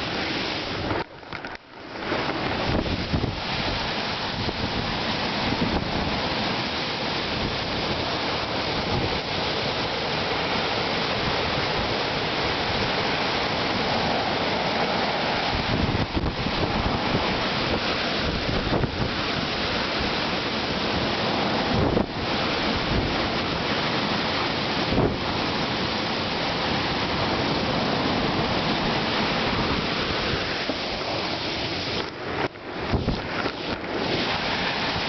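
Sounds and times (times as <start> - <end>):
strong wind buffeting microphone: 0.0 - 35.0.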